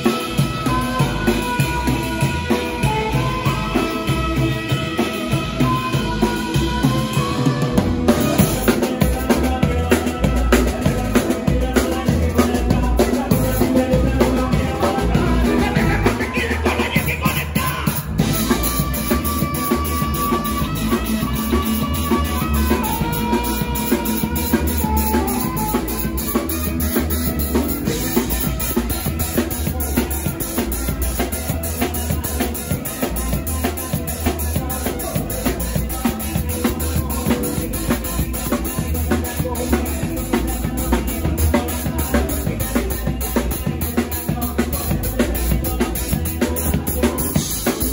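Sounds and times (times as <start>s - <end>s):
saxophone melody: 0.0s - 11.9s, 12.6s - 44.0s
bass guitar: 0.0s - 47.9s
drum kit: 0.0s - 47.9s.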